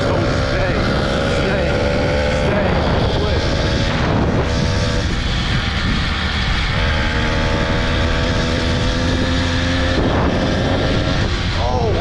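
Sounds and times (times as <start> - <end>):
small motorbike engine running: 0.0 - 12.0
wind noise on microphone: 0.0 - 12.0.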